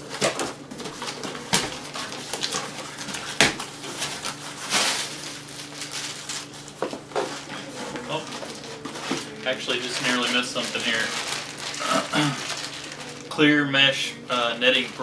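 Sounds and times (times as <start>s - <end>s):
cardboard flaps tearing: 0.0s - 7.4s, 8.0s - 13.3s
steady low hum: 0.0s - 15.0s.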